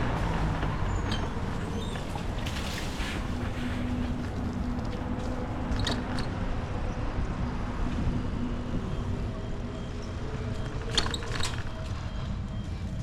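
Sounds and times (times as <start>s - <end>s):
road noise from bicycle: 0.0s - 13.0s
wind rumble: 0.0s - 13.0s.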